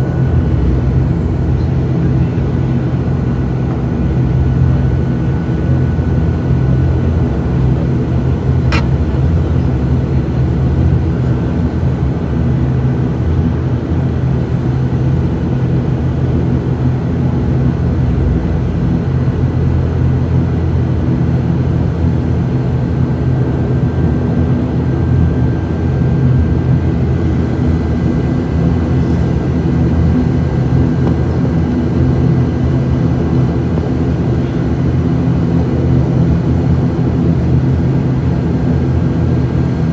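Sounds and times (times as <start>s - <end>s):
turboprop engines droning in cabin: 0.0s - 39.9s.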